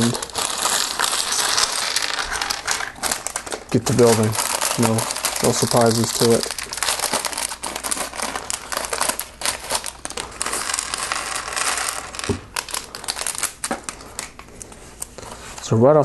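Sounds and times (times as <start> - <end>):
plastic bags crinkling: 0.0 - 15.7.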